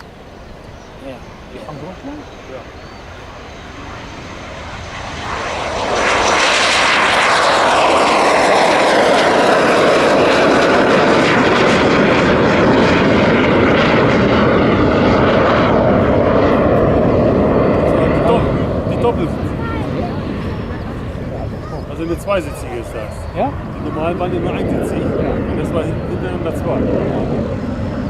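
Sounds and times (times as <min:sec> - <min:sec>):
jet engine taking off: 0:00.0 - 0:28.0.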